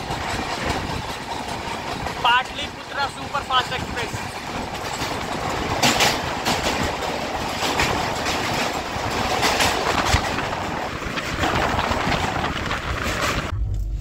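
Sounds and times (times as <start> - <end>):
wheels clacking over rail joints: 0.0 - 13.5
train rumbling on rails: 0.0 - 14.0.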